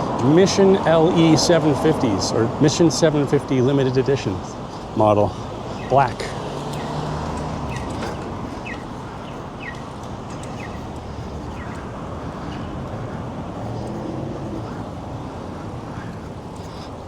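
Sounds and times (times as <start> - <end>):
city traffic: 0.0 - 17.0
wind noise: 0.0 - 17.0.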